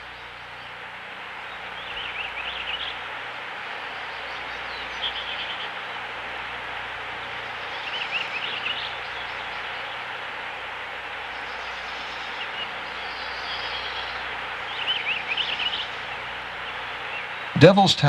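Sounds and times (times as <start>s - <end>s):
birds chirping: 0.0s - 18.0s
steady hiss: 0.0s - 18.0s.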